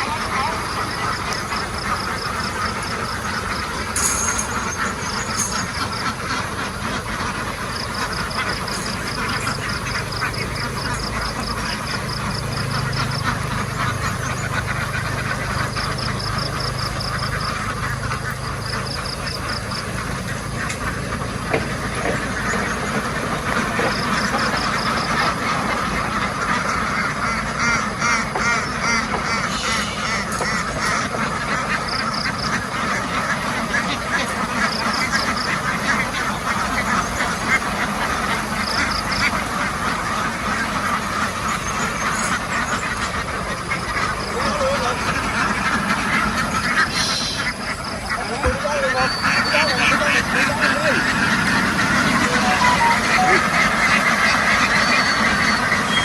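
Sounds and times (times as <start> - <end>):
flock of ducks quacking: 0.0 - 56.0.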